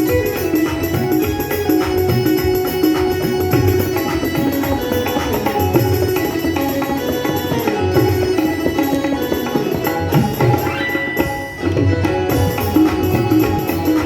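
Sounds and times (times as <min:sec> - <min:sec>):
hand drums beating: 0:00.0 - 0:14.0
held melody line: 0:00.0 - 0:14.0.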